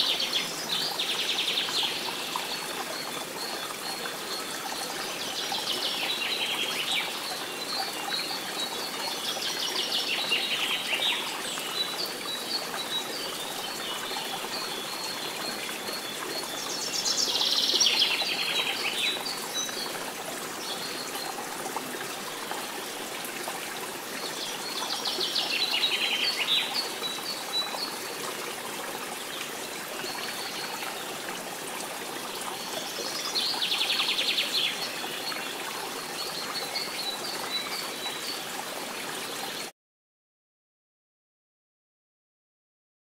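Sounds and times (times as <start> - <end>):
running water: 0.0 - 39.7.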